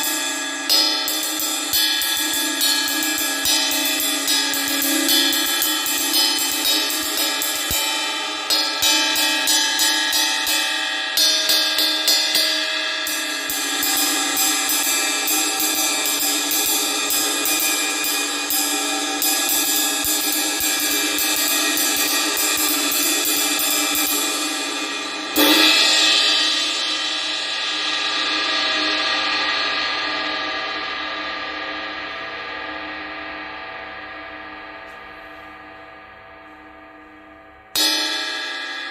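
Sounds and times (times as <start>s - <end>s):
loud cymbal crash ringing: 0.0s - 38.9s
ride cymbal struck with a stick: 0.0s - 38.9s.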